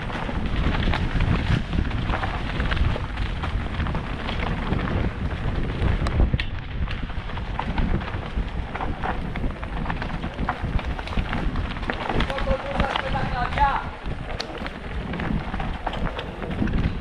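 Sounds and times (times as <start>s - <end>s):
bike clicks and knocks: 0.0s - 17.0s
tyres rolling over leaves and stones: 0.0s - 17.0s
wind rushing over microphone: 0.0s - 17.0s.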